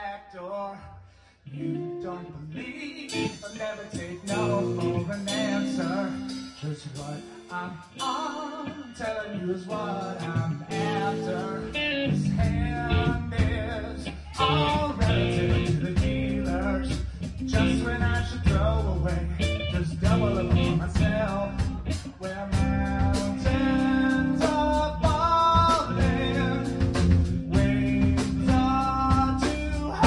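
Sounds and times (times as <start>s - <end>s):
rock band playing live: 2.8s - 30.0s.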